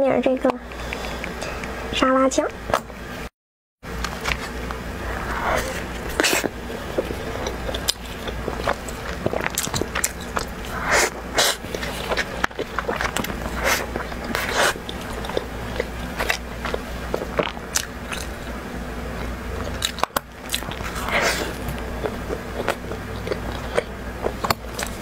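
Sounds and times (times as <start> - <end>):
biting and chewing pizza: 4.0 - 25.0.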